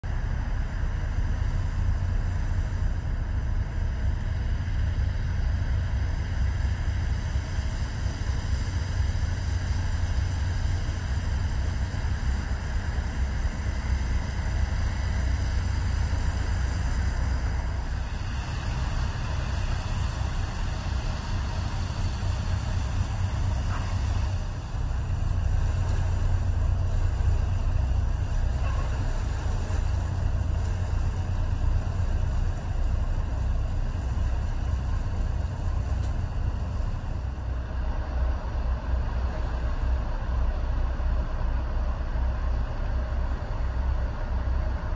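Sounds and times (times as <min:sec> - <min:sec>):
ship engine rumble: 0:00.0 - 0:44.9.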